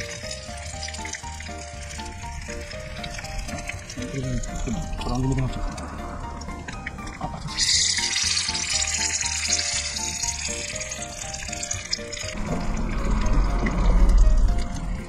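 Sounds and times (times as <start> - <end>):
background music with stepping melody: 0.0 - 15.0
tempura sizzling in hot oil: 0.0 - 15.0.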